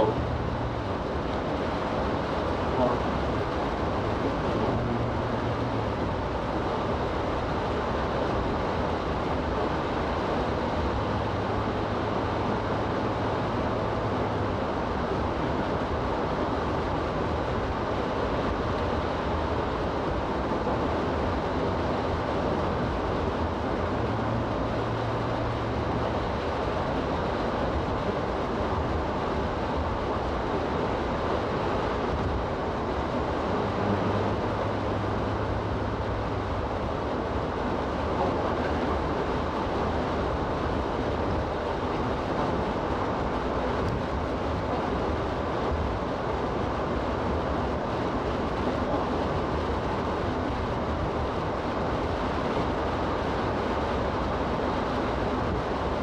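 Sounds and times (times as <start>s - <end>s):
engine drone: 0.0s - 56.0s
tyres on wet road: 0.0s - 56.0s.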